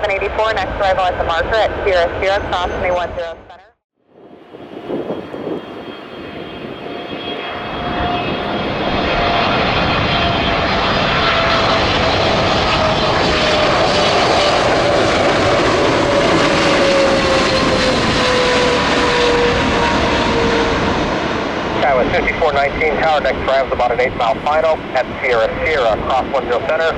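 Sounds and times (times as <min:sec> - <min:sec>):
jet engines roaring: 0:00.0 - 0:26.9.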